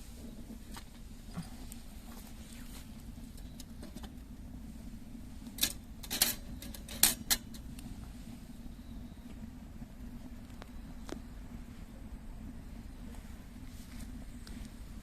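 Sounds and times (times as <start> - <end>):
steady low hum: 0.0 - 15.0
wood fire popping and snapping: 0.0 - 15.0.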